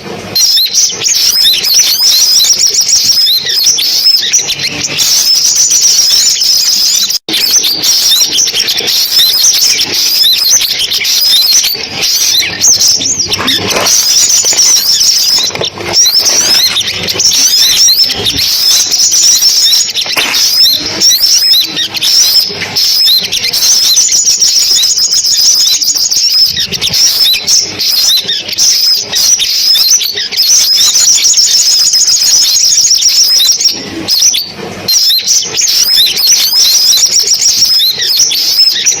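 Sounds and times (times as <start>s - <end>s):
birds twittering and trilling: 0.0s - 39.0s.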